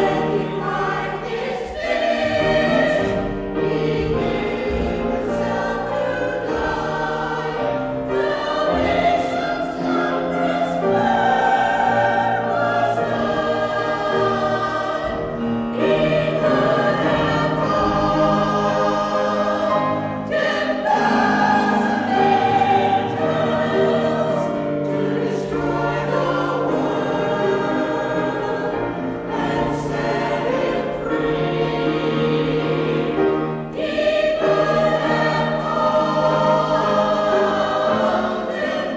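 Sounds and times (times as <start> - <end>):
mixed choir singing: 0.0 - 38.9.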